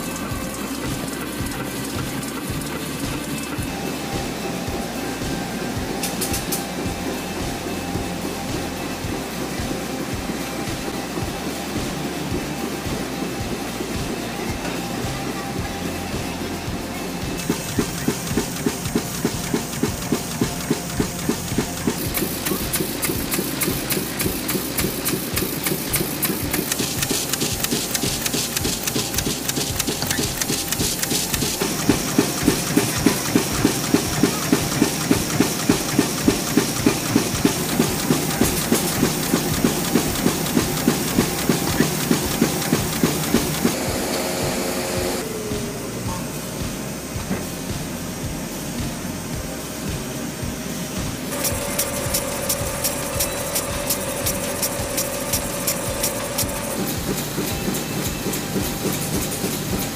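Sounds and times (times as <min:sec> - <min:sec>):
machinery rhythmic clatter: 0:00.0 - 0:59.9.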